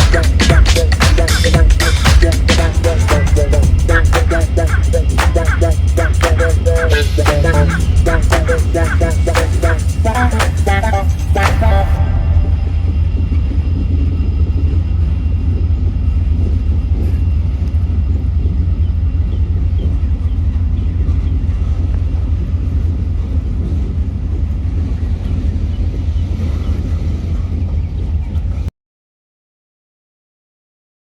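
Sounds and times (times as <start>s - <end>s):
passing train rumble: 0.0s - 28.7s.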